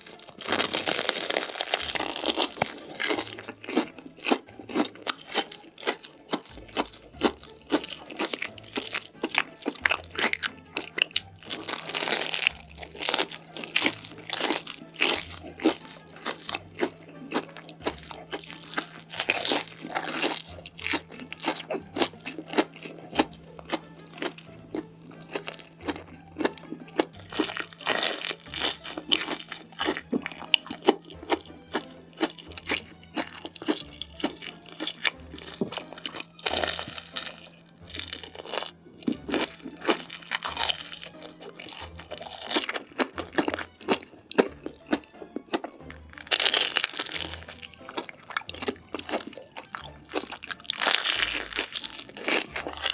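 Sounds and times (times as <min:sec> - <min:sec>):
crunchy bites and chewing: 0:00.0 - 0:52.9.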